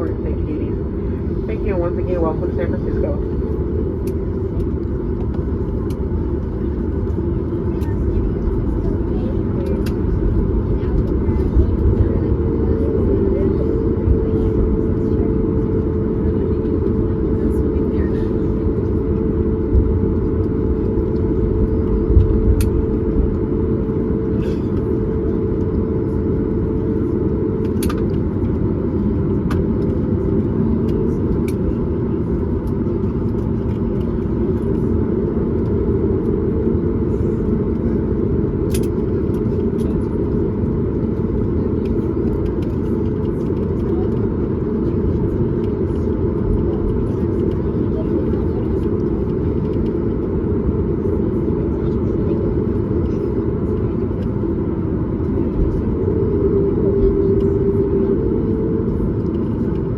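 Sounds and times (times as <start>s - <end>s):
airplane cabin rumble: 0.0s - 59.9s
held hum: 0.0s - 59.9s.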